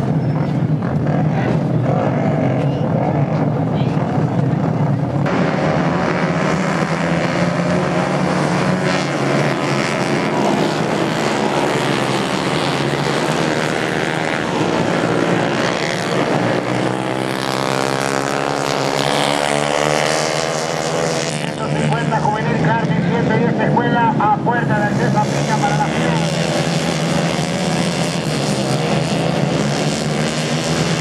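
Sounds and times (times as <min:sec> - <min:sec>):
kart engines buzzing: 0:00.0 - 0:31.0.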